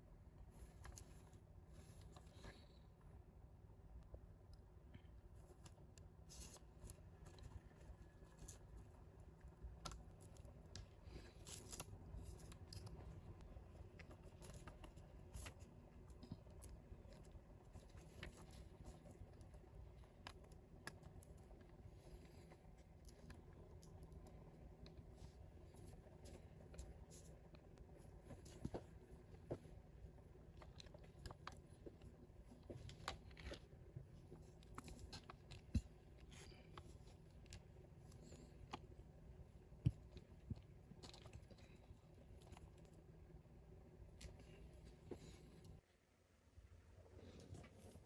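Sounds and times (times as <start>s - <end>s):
small parts clicking and scratching: 0.4s - 3.2s, 4.4s - 43.3s.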